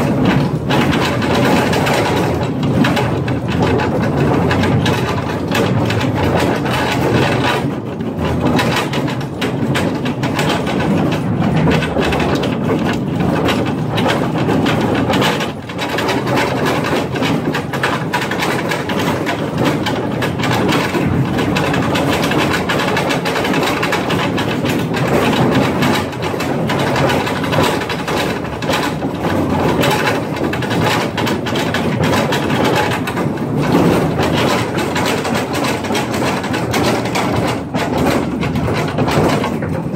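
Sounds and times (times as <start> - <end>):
mine train cars rattling: 0.0 - 39.9.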